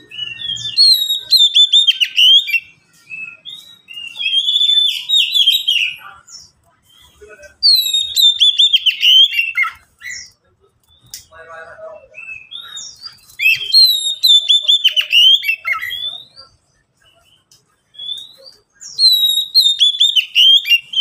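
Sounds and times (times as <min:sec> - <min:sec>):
birds singing whistled notes: 0:00.0 - 0:21.0.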